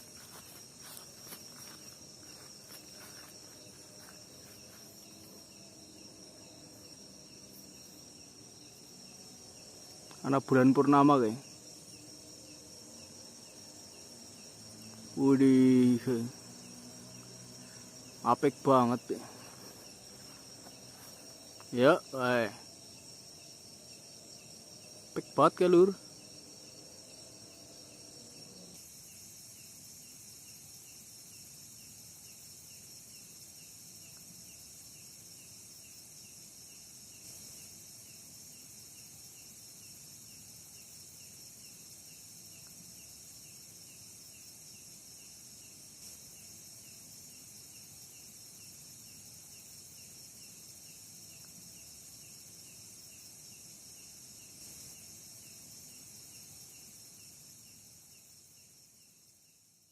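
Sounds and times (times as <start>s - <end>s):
night insects chirring: 0.0s - 59.9s.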